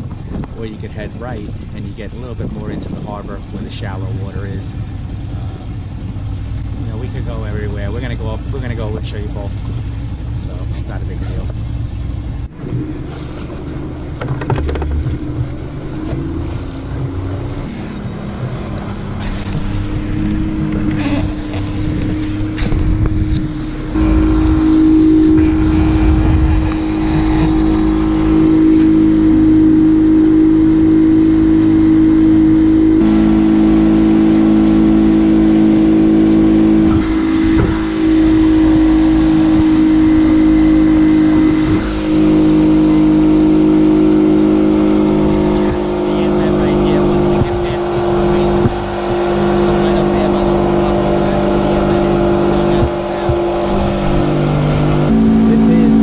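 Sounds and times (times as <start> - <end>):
outboard motor running: 0.0 - 56.0
wind and water rumble: 0.0 - 56.0.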